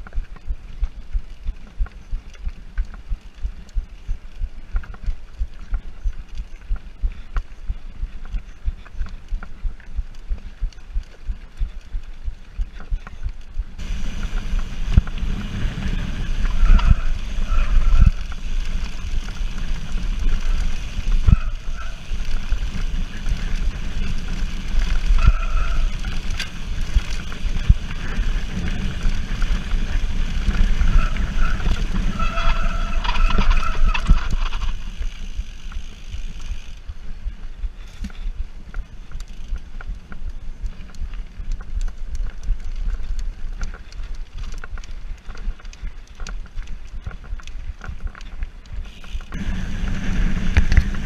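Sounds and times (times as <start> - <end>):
bike rattling and knocking: 0.0 - 51.0
tyres rumbling on dirt trail: 0.0 - 51.0
wind noise: 0.0 - 51.0.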